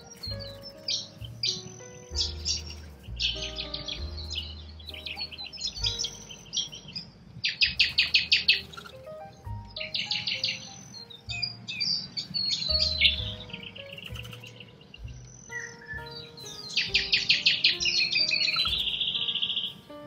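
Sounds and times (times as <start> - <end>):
birds chirping: 0.0 - 20.0
soft background music: 0.0 - 20.0.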